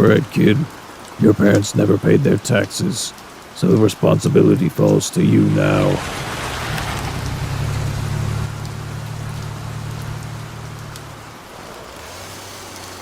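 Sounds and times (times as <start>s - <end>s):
rain hiss: 0.0s - 13.0s.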